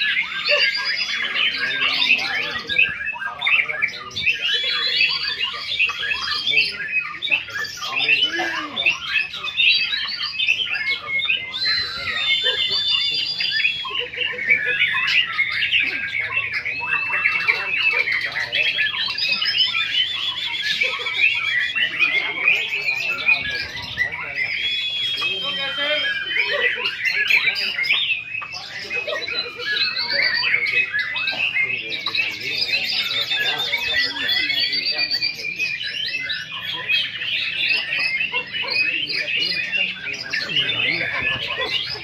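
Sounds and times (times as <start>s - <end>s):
chorus of birds singing: 0.0s - 42.0s.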